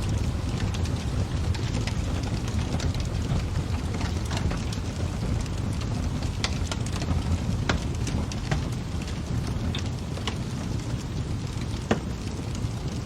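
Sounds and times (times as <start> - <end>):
burning wood crackling: 0.0 - 13.0
low rumble of flames: 0.0 - 13.0.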